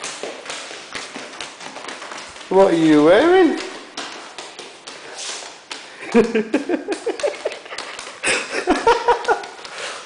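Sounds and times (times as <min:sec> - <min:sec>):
dog's shoes clicking on wooden floor: 0:00.0 - 0:10.0.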